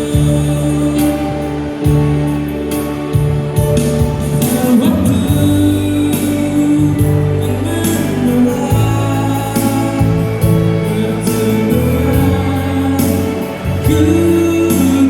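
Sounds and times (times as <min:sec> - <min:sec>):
backing track with bass line: 0:00.0 - 0:15.0
person singing: 0:00.0 - 0:15.0.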